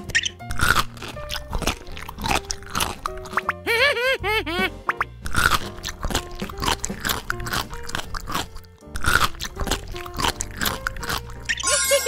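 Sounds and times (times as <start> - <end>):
crunchy chewing: 0.0 - 3.5, 5.2 - 11.6.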